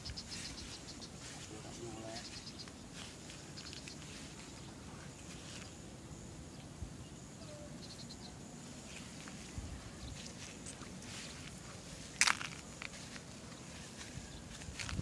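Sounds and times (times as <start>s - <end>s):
insect buzz: 0.0s - 15.0s.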